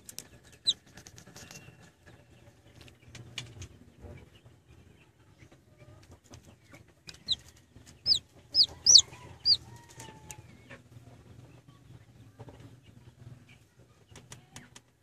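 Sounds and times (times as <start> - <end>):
chick peeping: 0.2 - 1.1, 1.7 - 14.7.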